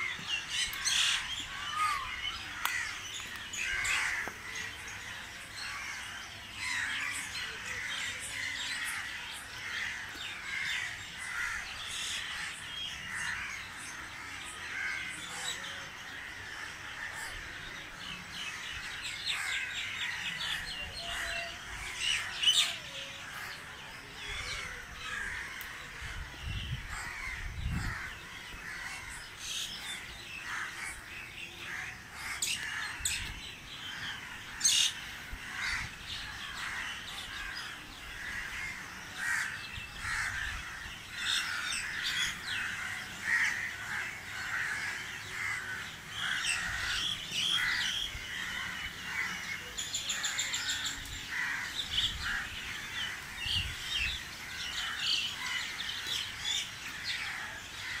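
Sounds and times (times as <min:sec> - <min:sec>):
harsh cawing calls: 0:00.0 - 0:17.6, 0:18.5 - 0:58.0
birds chirping and calling: 0:00.0 - 0:58.0.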